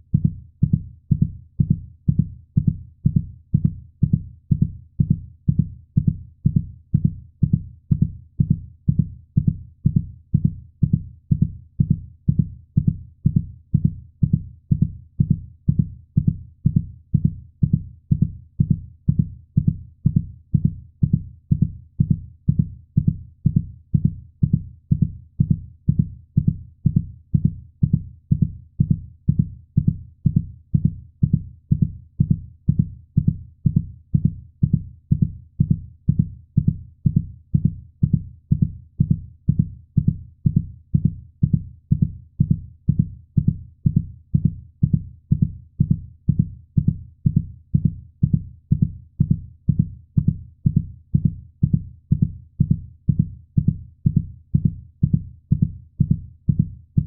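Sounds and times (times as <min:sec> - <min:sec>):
heartbeat thumps: 0:00.0 - 0:57.0.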